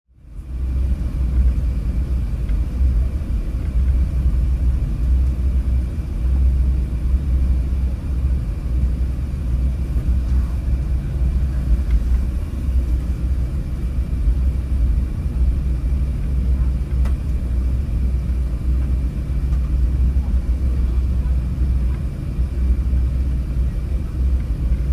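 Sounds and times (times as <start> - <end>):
aircraft cabin rumble: 0.1 - 24.9
faint steady whine: 0.1 - 24.9.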